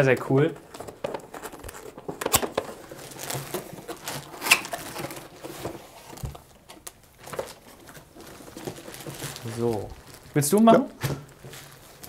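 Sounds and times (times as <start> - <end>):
plastic and cardboard rustling: 0.0 - 12.0.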